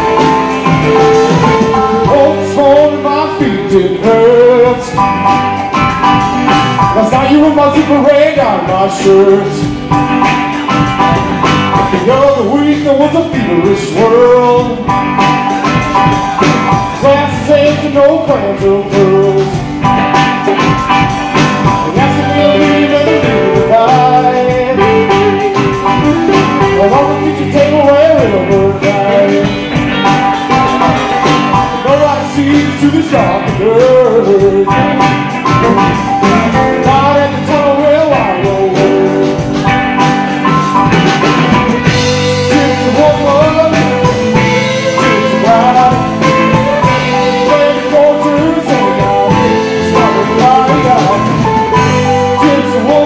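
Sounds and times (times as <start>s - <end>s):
bass guitar: 0.0s - 53.0s
drum kit: 0.0s - 53.0s
electric guitars: 0.0s - 53.0s
keyboard: 0.0s - 53.0s.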